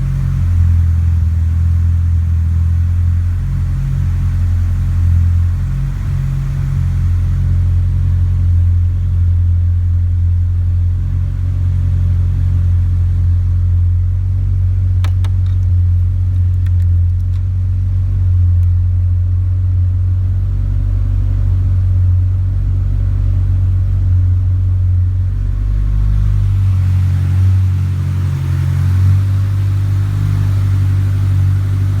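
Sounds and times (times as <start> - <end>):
turbo car engine running: 0.0 - 32.0.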